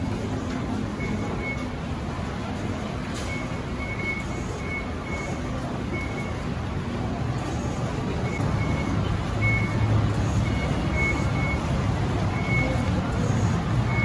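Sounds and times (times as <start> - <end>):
fare gates beeping: 0.0 - 6.9, 8.0 - 14.0
low rumble of busy concourse: 0.0 - 14.0
passengers walking: 0.0 - 14.0.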